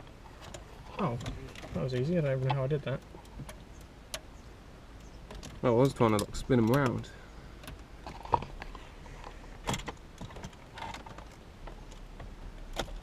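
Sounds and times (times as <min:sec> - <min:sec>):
car radio being handled: 0:00.0 - 0:07.0, 0:07.6 - 0:13.0
light clicks and knocks: 0:00.0 - 0:13.0.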